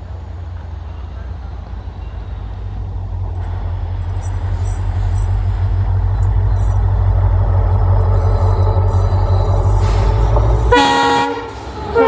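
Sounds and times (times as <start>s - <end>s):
diesel locomotive engine rumble: 0.0s - 12.0s
wheels clicking on track: 0.0s - 12.0s.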